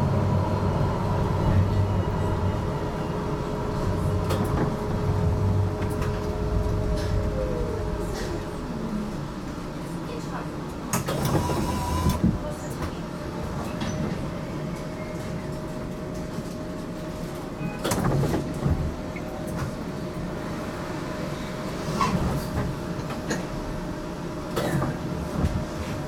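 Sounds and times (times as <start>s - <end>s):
tram interior low rumble: 0.0s - 26.0s.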